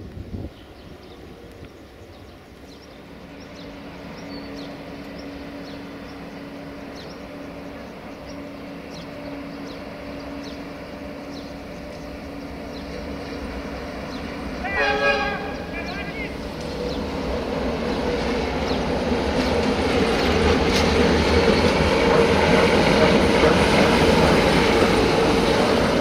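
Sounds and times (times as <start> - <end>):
locomotive engine hum: 0.0 - 26.0
birds chirping: 0.4 - 26.0.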